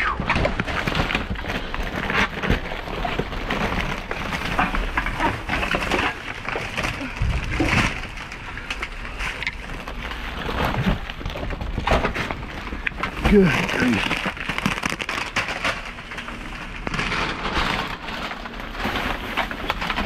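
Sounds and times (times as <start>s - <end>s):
boxes clicking and knocking: 0.0s - 20.0s
packaging crinkling and rustling: 0.0s - 20.0s.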